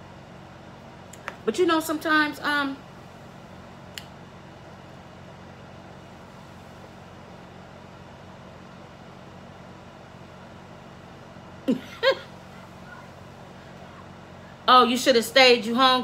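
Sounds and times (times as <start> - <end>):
low hum with hiss: 0.0 - 16.0.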